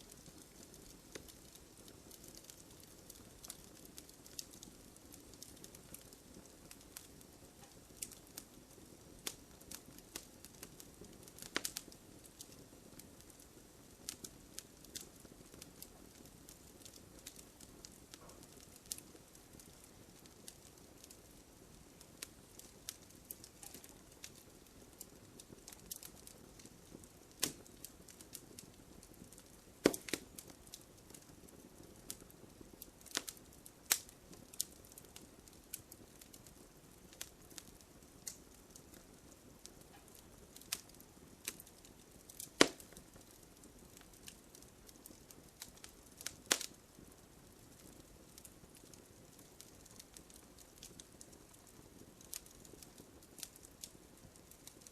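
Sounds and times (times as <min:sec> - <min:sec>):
loud snaps of fire: 0:00.0 - 0:54.9
wood fire hissing and crackling: 0:00.0 - 0:54.9.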